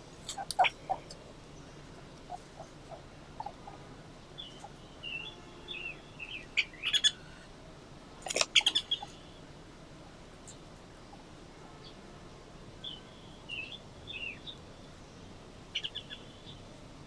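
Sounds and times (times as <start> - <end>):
birds chirping: 0.0 - 12.0, 12.8 - 16.7.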